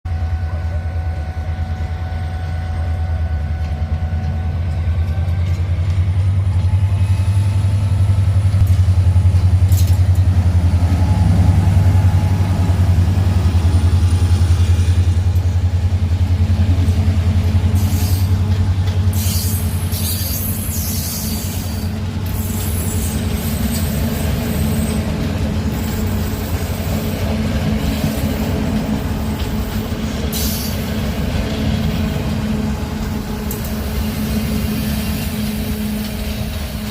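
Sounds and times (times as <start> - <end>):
locomotive engine rumbling: 0.1 - 36.9.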